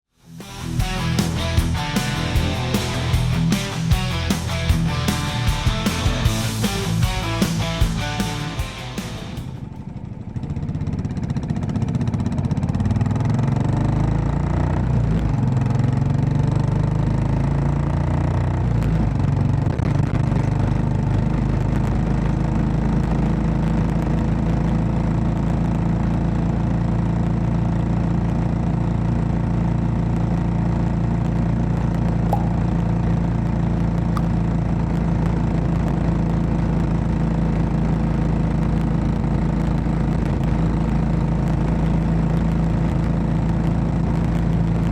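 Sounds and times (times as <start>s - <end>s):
motorcycle engine running: 0.3s - 44.9s.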